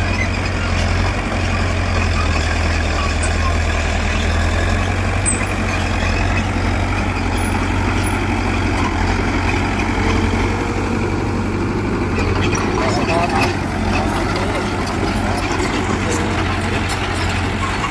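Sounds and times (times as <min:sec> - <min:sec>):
heavy diesel engine rumbling: 0:00.0 - 0:17.9.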